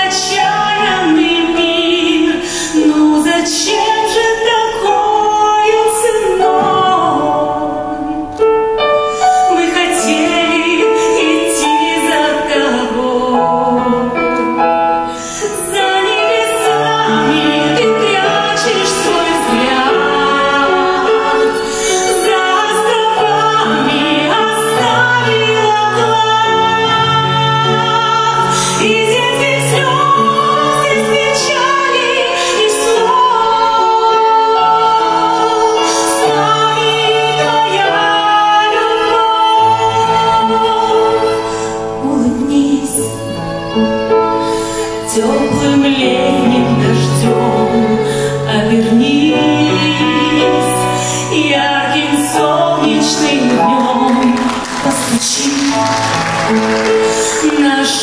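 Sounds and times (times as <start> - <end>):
woman singing a ballad: 0.0 - 43.8, 44.7 - 58.0
piano: 0.0 - 58.0
violin: 0.0 - 58.0.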